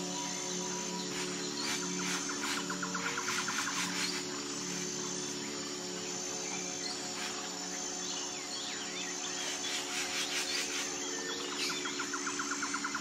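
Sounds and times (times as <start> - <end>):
birds chirping: 0.0 - 13.0
insects humming: 0.0 - 13.0.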